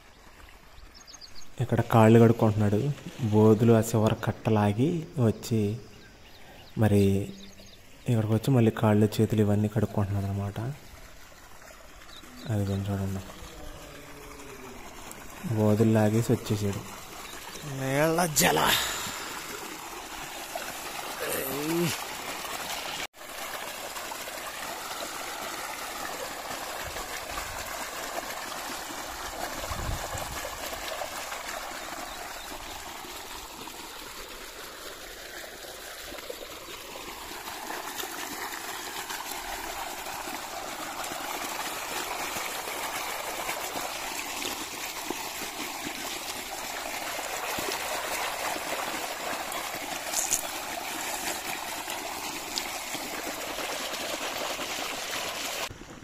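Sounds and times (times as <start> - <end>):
water gushing from a pipe: 8.4 - 56.0.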